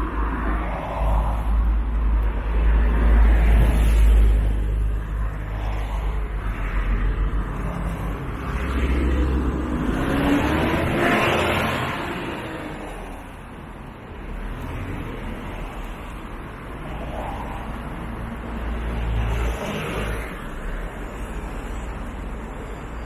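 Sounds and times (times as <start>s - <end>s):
bus passing: 0.0s - 23.0s
cars passing: 0.0s - 23.0s.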